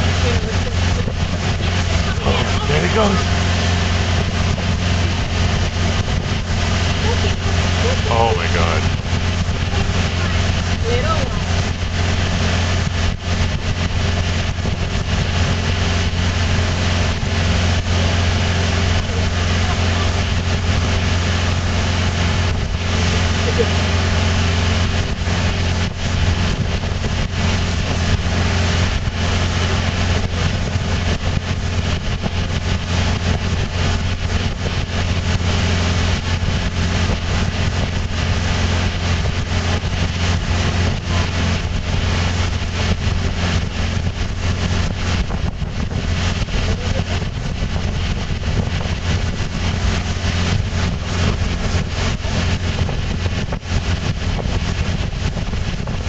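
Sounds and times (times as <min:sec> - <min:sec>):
churning wake water: 0:00.0 - 0:56.0
outboard motor drone: 0:00.0 - 0:56.0
wind rushing: 0:00.0 - 0:56.0.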